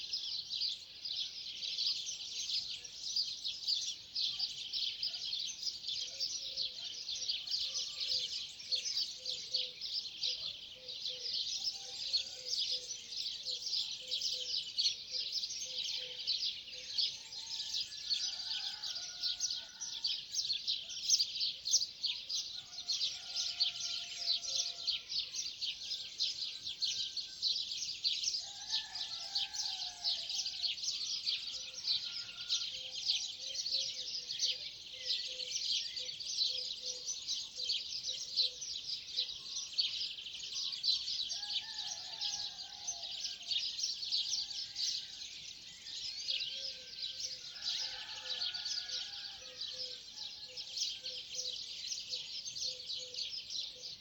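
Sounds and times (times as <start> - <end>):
chorus of small birds chirping: 0.0 - 54.0.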